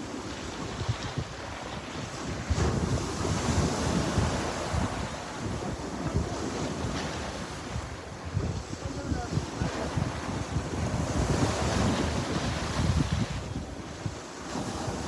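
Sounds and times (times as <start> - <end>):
sea waves breaking on shore: 0.0 - 15.0
wind buffeting microphone: 0.0 - 15.0.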